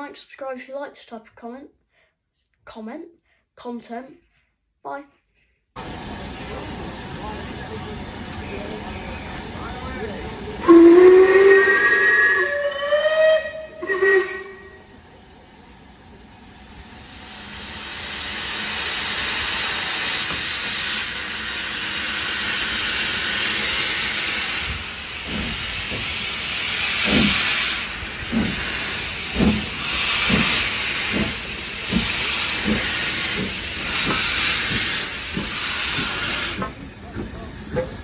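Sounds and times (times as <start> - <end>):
steam hissing from cylinders: 5.8 - 38.0
steam locomotive chuffing: 5.8 - 38.0.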